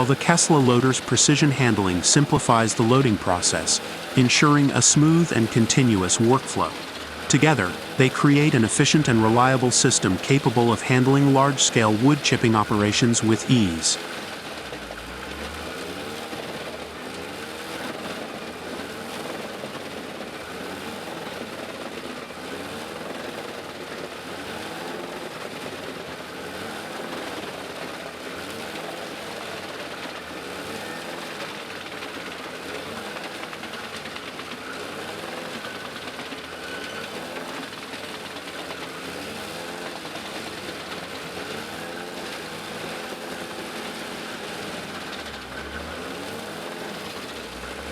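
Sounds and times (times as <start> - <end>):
wood chipper and tractor running: 0.0 - 47.9.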